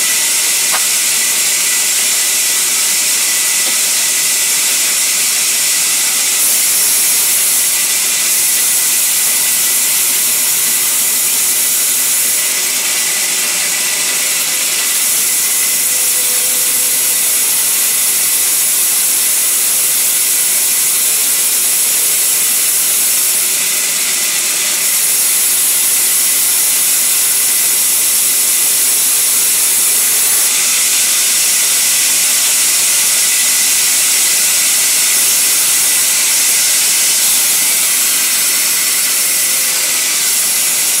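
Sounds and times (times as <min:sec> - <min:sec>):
band saw blade cutting wood: 0:00.0 - 0:41.0.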